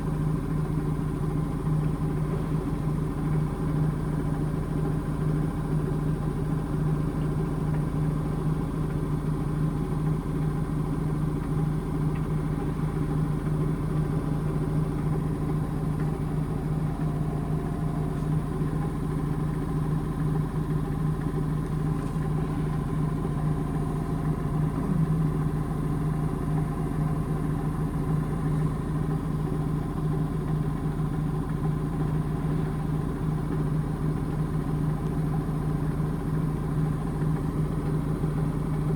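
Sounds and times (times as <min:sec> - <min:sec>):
washing machine spinning: 0:07.6 - 0:38.9.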